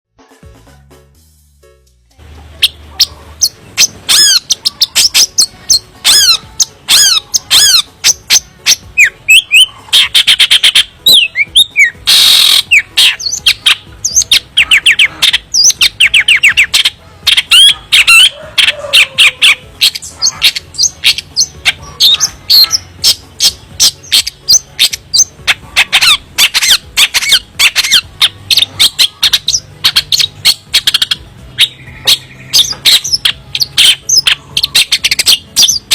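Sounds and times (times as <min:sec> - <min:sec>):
shrike singing: 0:02.4 - 0:35.9.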